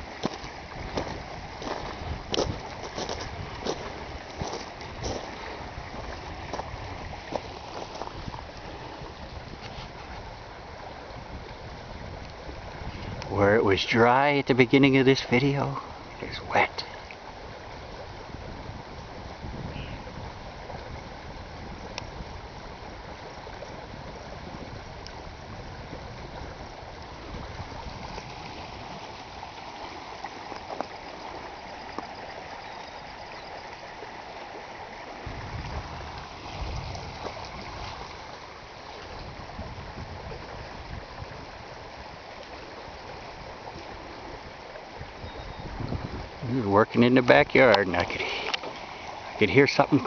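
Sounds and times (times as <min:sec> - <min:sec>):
rushing flood water: 0:00.0 - 0:50.0.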